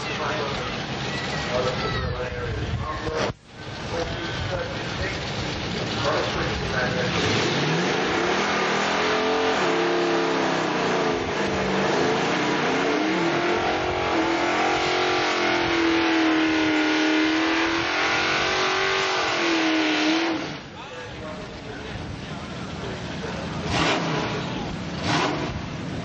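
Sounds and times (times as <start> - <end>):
tyres spinning in burnout: 0.0 - 20.8
drag car engine revving: 0.0 - 26.0.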